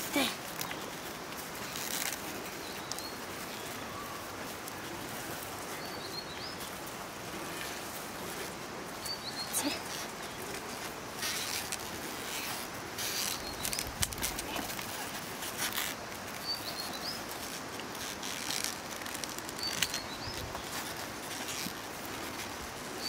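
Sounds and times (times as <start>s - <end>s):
insects buzzing: 0.0s - 23.0s
outdoor hiss: 0.0s - 23.0s
plough scraping through dry soil: 0.0s - 23.0s.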